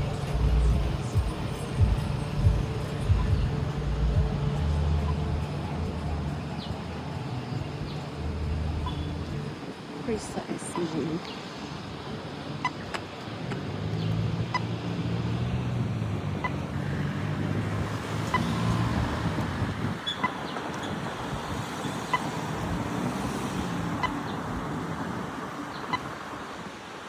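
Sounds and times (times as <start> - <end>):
vehicle engine running: 0.0 - 24.8
road traffic: 0.0 - 27.0.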